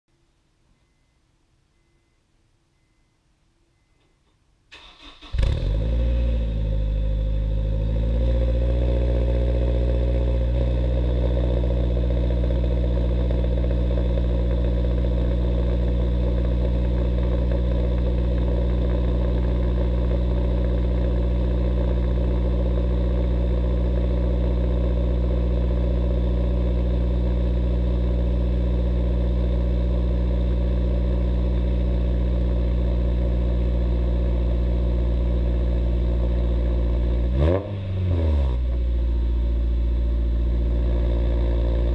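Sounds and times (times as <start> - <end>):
car engine cold start and idle: 3.8 - 41.9.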